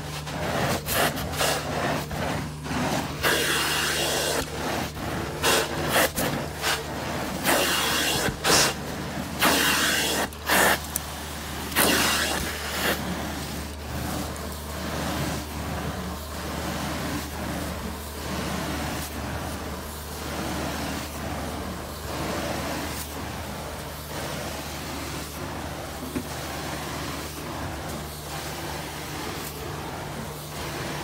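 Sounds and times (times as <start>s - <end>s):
carpet extraction vacuum: 0.0s - 31.0s.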